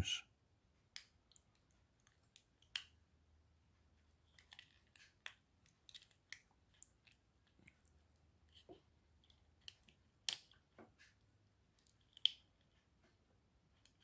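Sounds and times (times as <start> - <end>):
small plastic clicks and ticks: 0.8 - 3.0, 4.2 - 14.0.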